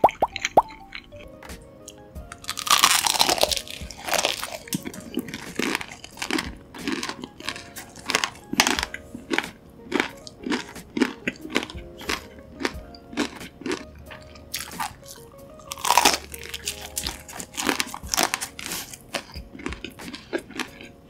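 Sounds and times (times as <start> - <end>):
soft background music: 0.0 - 21.0
crunchy chewing: 0.3 - 21.0.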